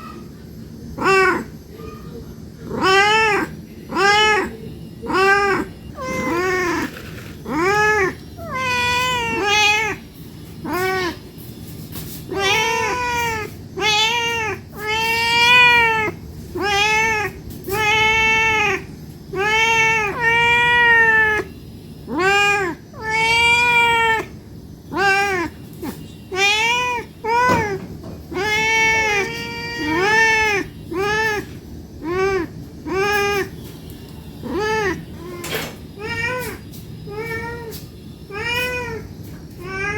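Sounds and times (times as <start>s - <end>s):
cat meowing: 0.9s - 11.2s, 12.3s - 39.9s.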